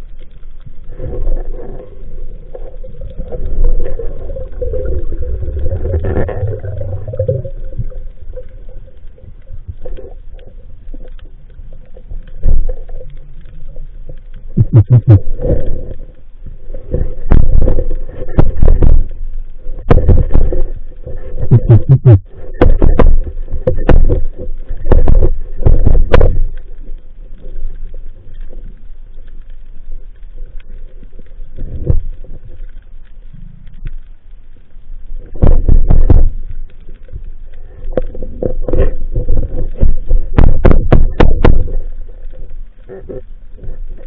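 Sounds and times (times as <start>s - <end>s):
faint steady hum: 0.0s - 44.0s
muffled underwater water surges: 0.0s - 44.0s.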